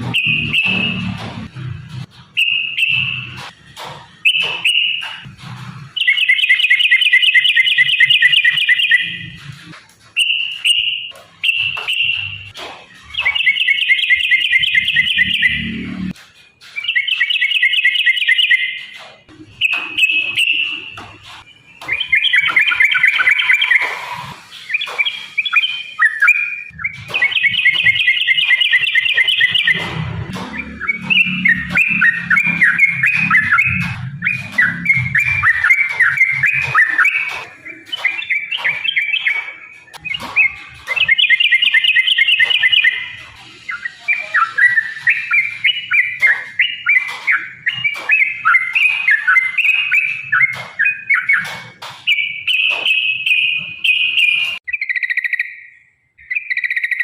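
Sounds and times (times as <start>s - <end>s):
bulbul singing rapid chattering: 0.0s - 9.4s, 10.0s - 57.0s.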